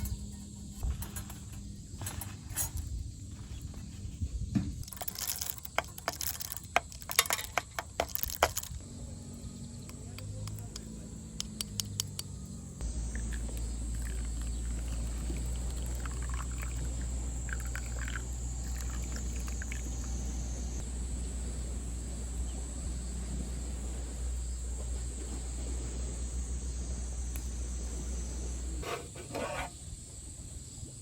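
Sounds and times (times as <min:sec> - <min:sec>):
insect drone: 0:00.0 - 0:31.0.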